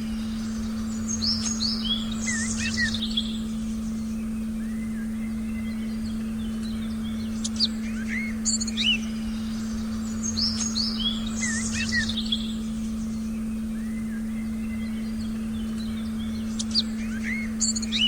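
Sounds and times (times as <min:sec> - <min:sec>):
birds chirping: 0:00.0 - 0:18.0
electronic meditation tone: 0:00.0 - 0:18.0.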